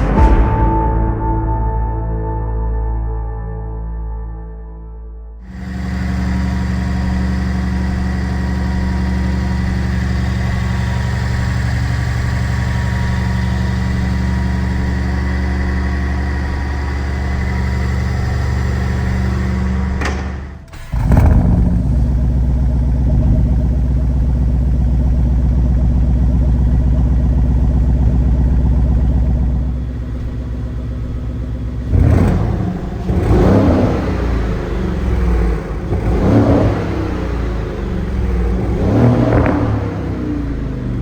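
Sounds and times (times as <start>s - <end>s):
car exhaust idling and revving: 5.5s - 41.0s.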